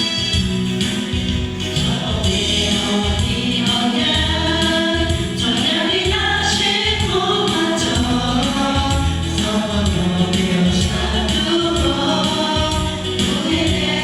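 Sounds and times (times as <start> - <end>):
instrumental accompaniment: 0.0 - 14.0
group of voices singing: 1.6 - 14.0.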